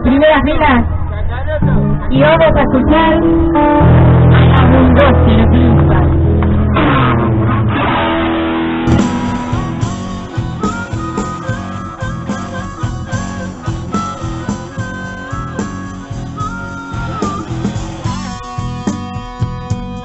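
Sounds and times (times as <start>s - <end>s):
guitar melody: 0.0s - 20.0s
blues band playing live: 1.6s - 20.0s.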